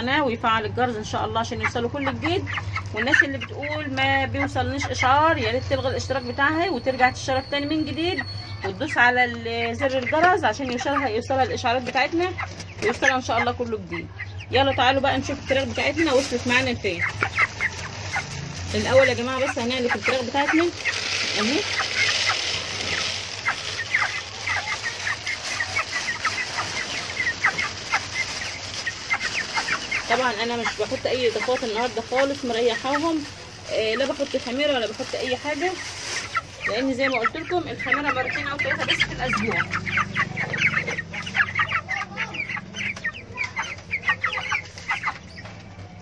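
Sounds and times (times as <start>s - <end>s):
chicks peeping: 0.0s - 46.0s.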